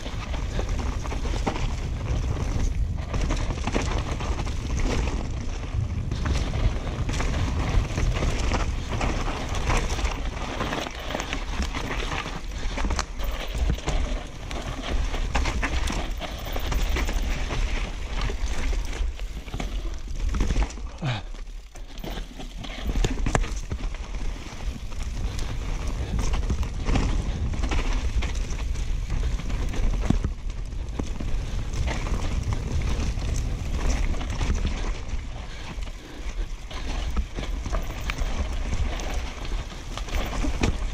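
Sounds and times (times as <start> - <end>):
wind rumble on microphone: 0.0 - 21.2, 21.8 - 40.9
bike rattling over roots and stones: 0.0 - 40.9.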